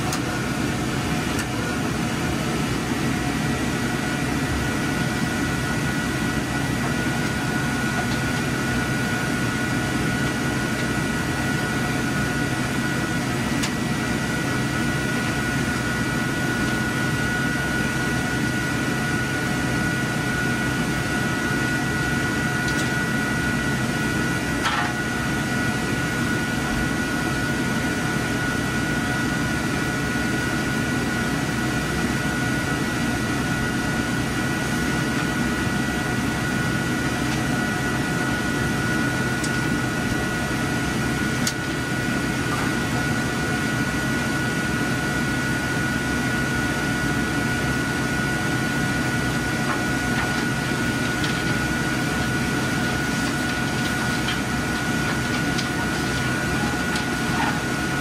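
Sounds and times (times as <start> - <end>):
projector machinery whirring: 0.0 - 58.0.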